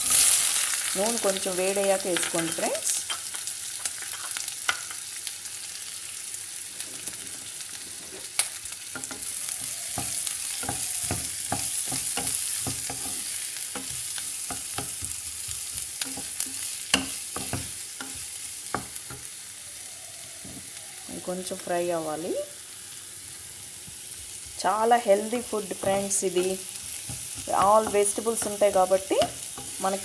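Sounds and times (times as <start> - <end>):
onions sizzling in oil: 0.0 - 30.0.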